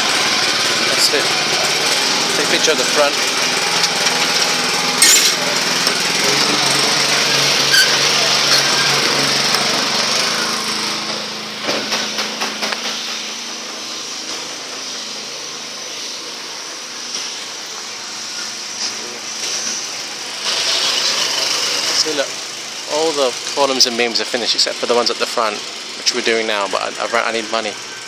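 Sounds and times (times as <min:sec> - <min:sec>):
construction machine running: 0:00.0 - 0:28.0.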